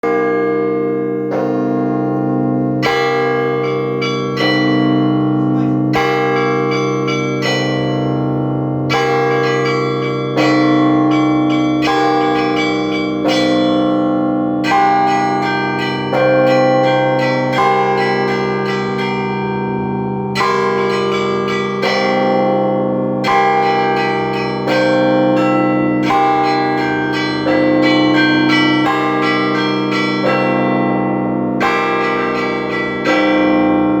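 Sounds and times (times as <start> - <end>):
hum of large bells: 0.0 - 34.0.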